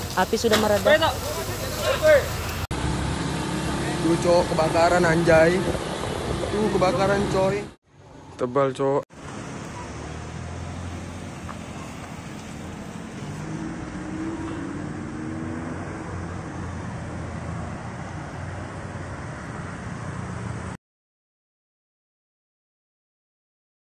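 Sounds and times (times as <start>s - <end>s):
motorbike engines passing: 0.0s - 8.4s, 9.1s - 20.8s
road noise: 0.0s - 20.8s.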